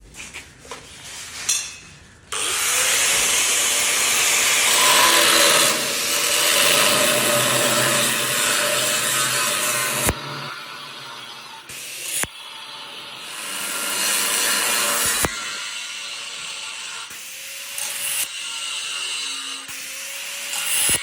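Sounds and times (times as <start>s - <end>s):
power tool cutting steel: 2.3s - 21.0s.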